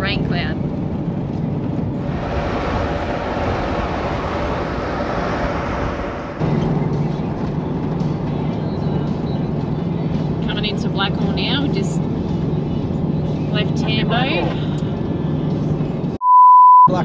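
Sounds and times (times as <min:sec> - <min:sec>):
engine and tyres drone: 0:00.0 - 0:16.2
road and wind noise inside car: 0:00.0 - 0:16.2.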